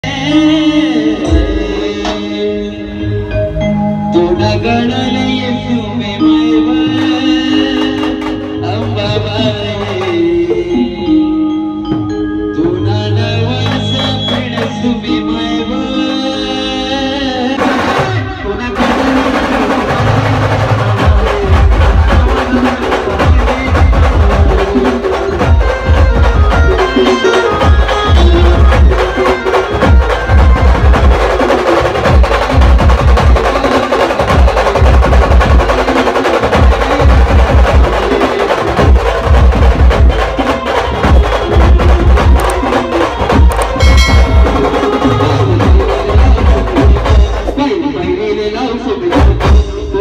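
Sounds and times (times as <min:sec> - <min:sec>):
heavy bass drum beats: 0:00.0 - 0:03.0, 0:04.2 - 0:11.3, 0:12.0 - 0:50.0
band playing keyboard and drums: 0:00.0 - 0:50.0.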